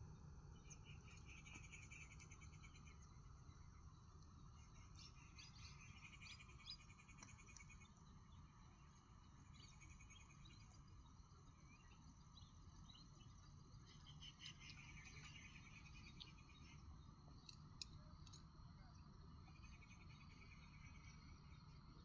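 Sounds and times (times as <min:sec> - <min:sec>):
steady low hum: 0:00.0 - 0:22.0
insects chirping in trills: 0:00.2 - 0:22.0.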